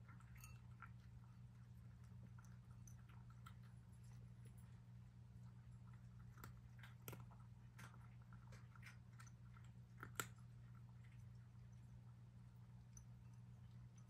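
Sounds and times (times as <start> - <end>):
cat crunching dry kibble: 0.0 - 14.0.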